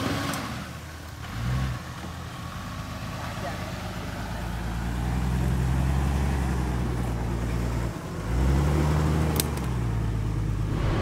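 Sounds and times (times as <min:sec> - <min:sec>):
off-road vehicle engine at low revs: 0:00.0 - 0:11.0.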